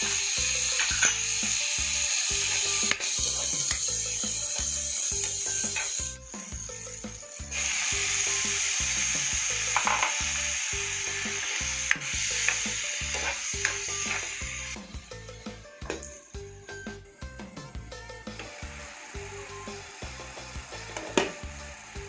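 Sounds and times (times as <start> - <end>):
food sizzling in hot oil: 0.0 - 16.8, 18.2 - 22.0.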